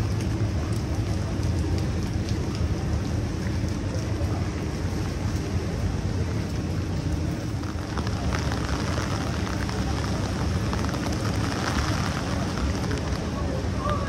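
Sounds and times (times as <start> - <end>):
low rumble: 0.0 - 14.0
rain hissing on street: 0.0 - 14.0.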